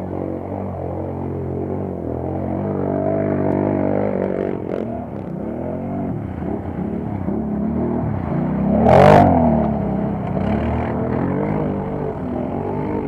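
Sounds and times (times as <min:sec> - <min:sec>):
atv engines revving: 0:00.0 - 0:13.0.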